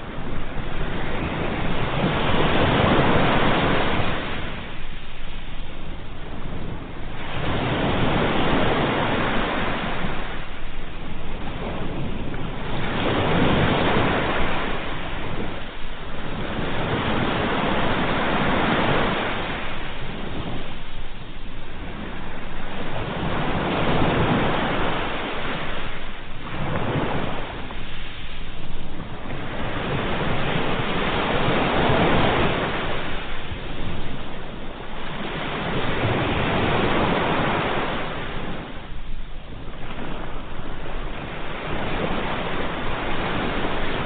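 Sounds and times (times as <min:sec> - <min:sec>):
ocean waves breaking on shore: 0:00.0 - 0:44.0.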